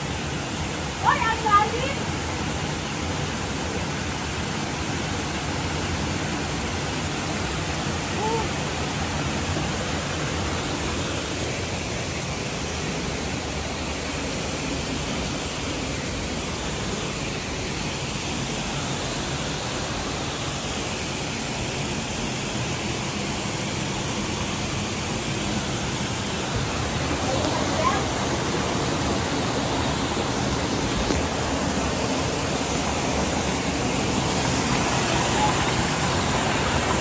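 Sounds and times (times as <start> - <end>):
waterfall rushing over boulders: 0.0 - 37.0.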